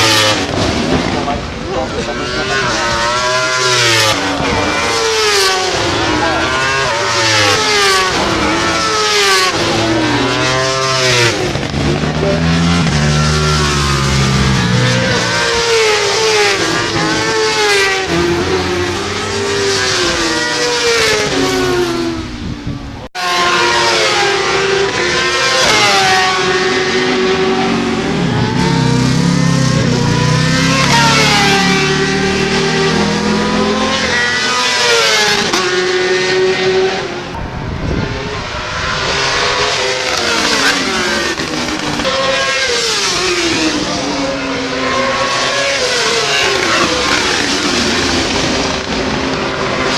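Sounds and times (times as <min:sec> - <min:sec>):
racing motorcycle engines revving: 0:00.0 - 0:49.9.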